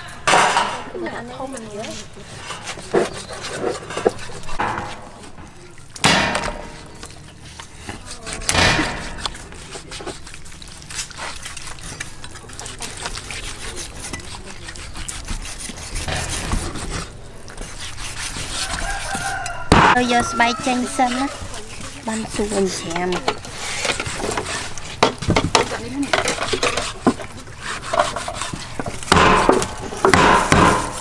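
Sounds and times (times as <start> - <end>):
cleaver clicking and scraping: 1.6 - 31.0.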